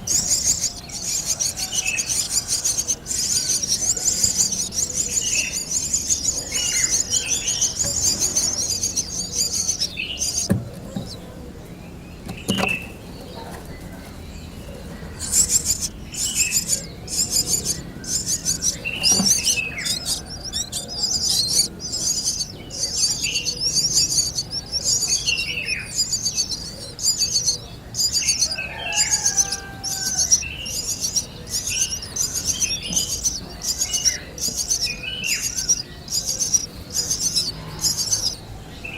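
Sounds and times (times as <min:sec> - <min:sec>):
nestling birds chirping: 0:00.0 - 0:38.9.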